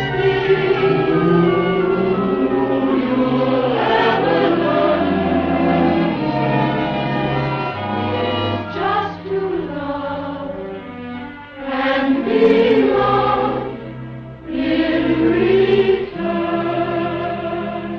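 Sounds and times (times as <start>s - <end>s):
choir singing held chords: 0.0s - 17.9s
orchestral film music: 0.0s - 17.9s.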